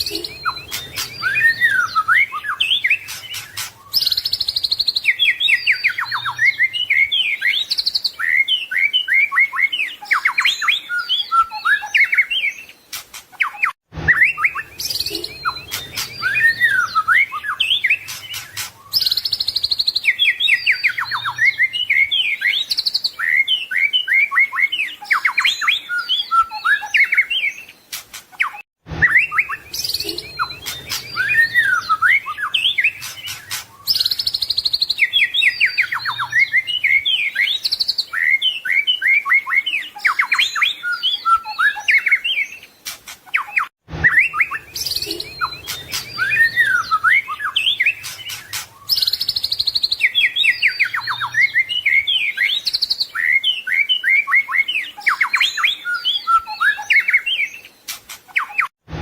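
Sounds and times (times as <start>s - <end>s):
bird singing whistles and trills: 0.0s - 58.7s.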